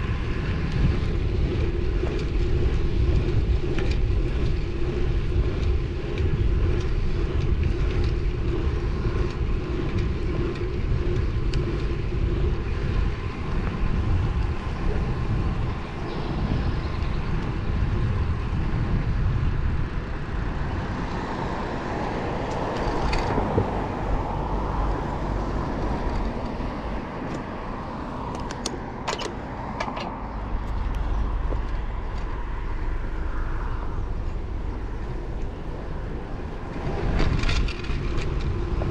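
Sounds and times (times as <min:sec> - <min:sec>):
bike tyre road noise: 0:00.0 - 0:38.9
passing traffic: 0:00.0 - 0:38.9
wind buffeting microphone: 0:00.0 - 0:38.9.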